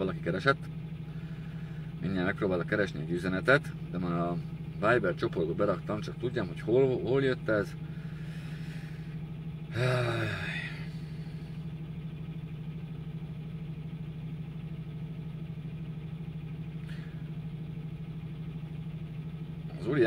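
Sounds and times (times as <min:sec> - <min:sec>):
vehicle engine hum inside cab: 0:00.0 - 0:20.0.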